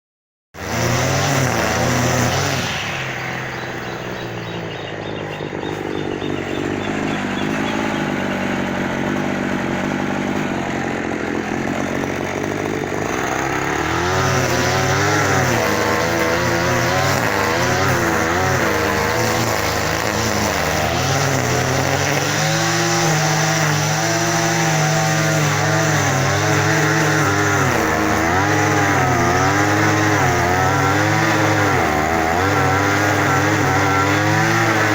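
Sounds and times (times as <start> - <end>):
engine revving: 0.6 - 34.9.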